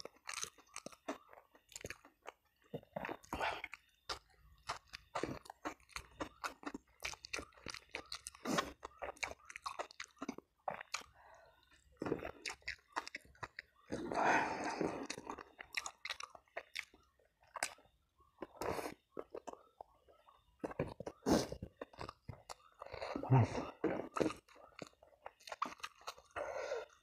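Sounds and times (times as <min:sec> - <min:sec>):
person chewing and crunching food: 0:00.0 - 0:27.0.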